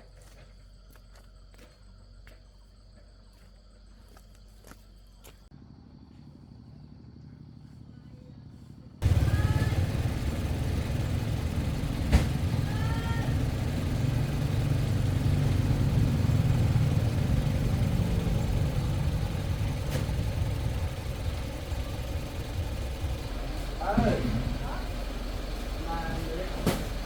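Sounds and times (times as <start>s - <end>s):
vehicle engine rumbling: 3.8s - 27.0s.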